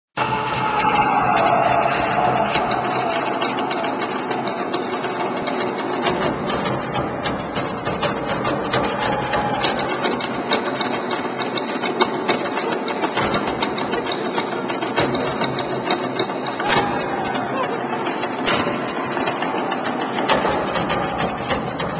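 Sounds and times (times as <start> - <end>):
low din: 0.2 - 12.3, 13.1 - 21.9
percussion rattling: 0.2 - 21.9.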